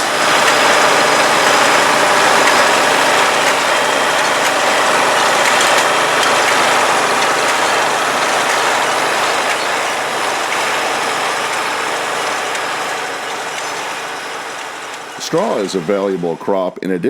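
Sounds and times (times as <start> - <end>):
mechanical clatter: 0.0 - 16.3
farm machinery engine: 0.0 - 16.7.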